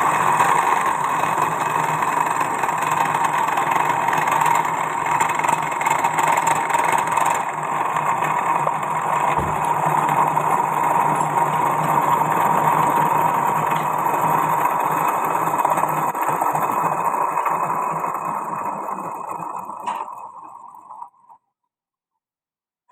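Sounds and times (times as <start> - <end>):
milling machine running: 0.0 - 21.3.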